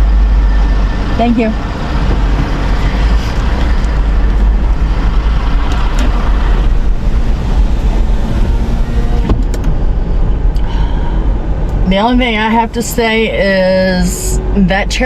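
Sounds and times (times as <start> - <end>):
car engine rumbling in cabin: 0.0 - 15.0.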